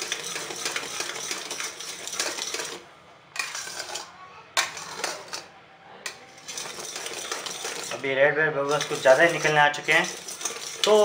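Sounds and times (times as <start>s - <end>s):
metal spoon scraping metal pan: 0.0s - 11.0s.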